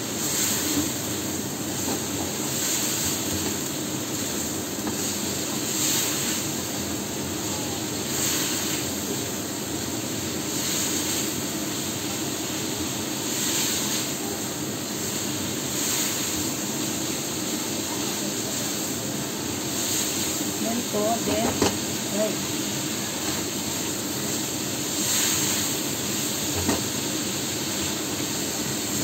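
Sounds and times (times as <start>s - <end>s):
meat sizzling in a wok: 0.0s - 29.0s.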